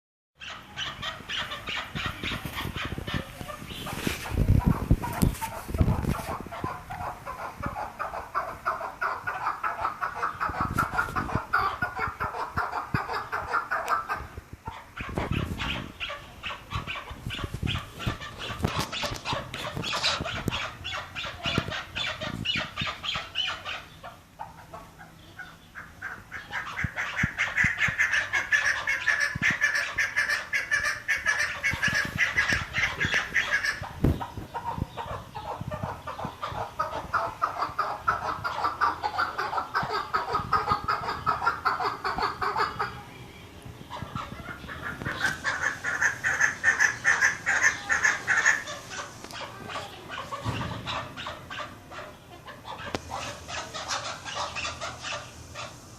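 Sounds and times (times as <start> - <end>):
partridges clucking calls: 0.4 - 55.9.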